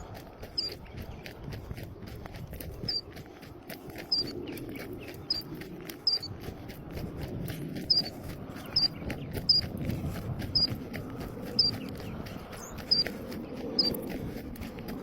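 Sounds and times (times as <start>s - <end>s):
crunching footsteps: 0.0s - 15.0s.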